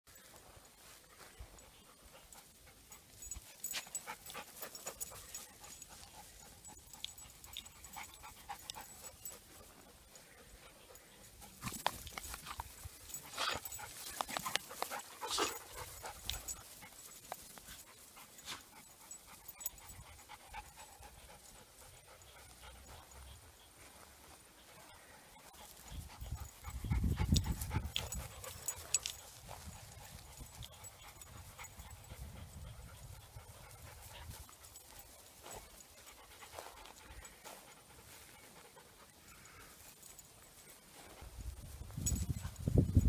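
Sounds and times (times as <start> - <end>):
dogs panting: 0.2 - 43.0.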